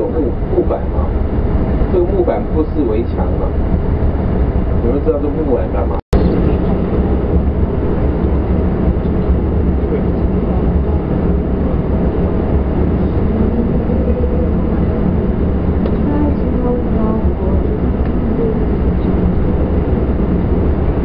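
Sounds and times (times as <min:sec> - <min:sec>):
vehicle driving at highway speed: 0:00.0 - 0:21.0.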